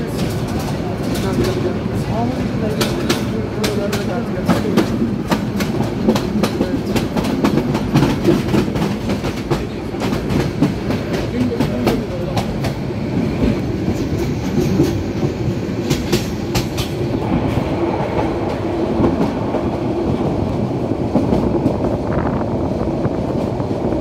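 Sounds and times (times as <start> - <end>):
wheels clacking over rail joints: 0.0 - 21.8
train wheels rumbling on rails: 0.0 - 24.0.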